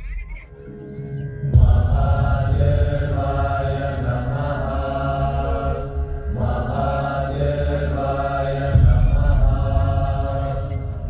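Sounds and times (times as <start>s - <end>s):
low musical drone: 0.0s - 11.0s
mantra chanting: 1.4s - 11.0s.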